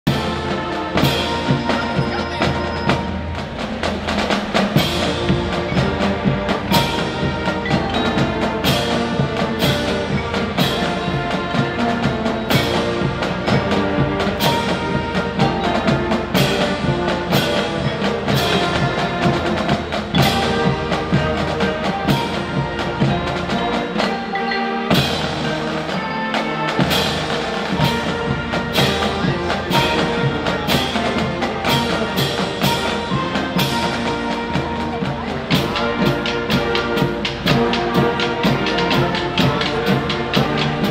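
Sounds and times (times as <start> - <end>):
music with percussive beat: 0.1 - 40.9.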